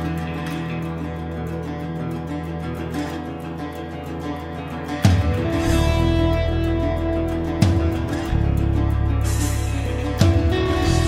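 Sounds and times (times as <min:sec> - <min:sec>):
guitar background music: 0:00.0 - 0:11.0.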